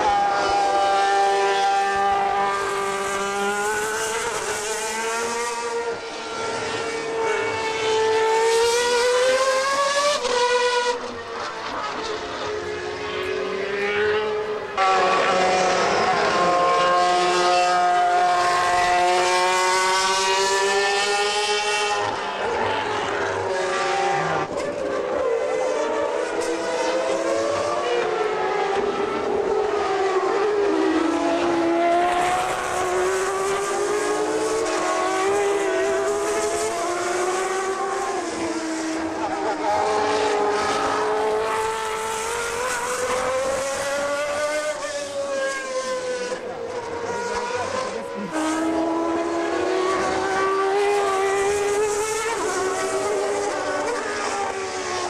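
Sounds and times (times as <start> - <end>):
racing car engines high-pitched: 0.0 - 55.0.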